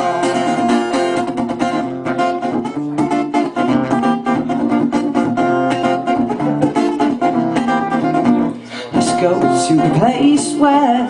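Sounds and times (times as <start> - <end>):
guitar strumming: 0.0 - 11.0.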